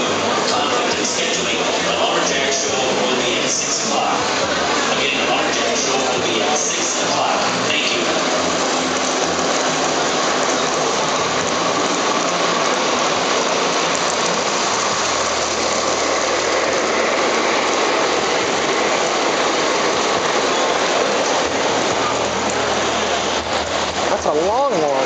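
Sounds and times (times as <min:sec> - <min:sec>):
model train wheels rumbling: 0:00.0 - 0:25.0.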